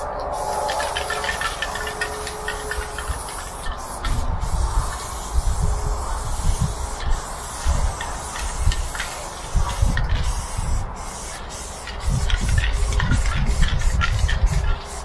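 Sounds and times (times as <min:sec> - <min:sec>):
spray paint can hissing: 0:00.0 - 0:15.0.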